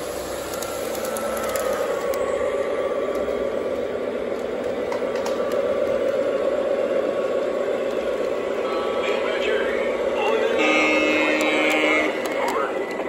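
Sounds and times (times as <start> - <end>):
model train wheels and motor hum: 0.0 - 13.0.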